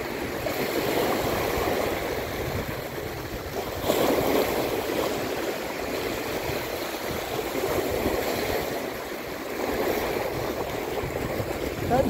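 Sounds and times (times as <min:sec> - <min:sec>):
sea waves breaking on rocks: 0:00.0 - 0:12.0.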